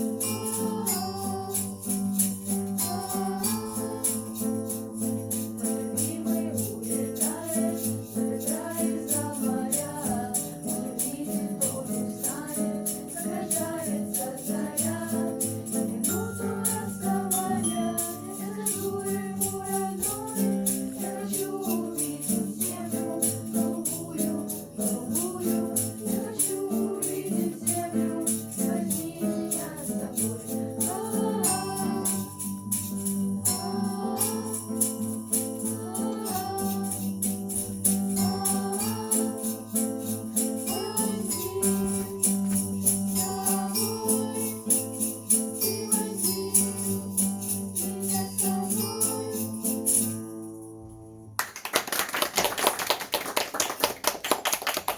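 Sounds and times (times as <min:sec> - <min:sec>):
several voices singing: 0:00.0 - 0:50.1
shaker and tambourine beat: 0:00.0 - 0:50.8, 0:51.4 - 0:54.9.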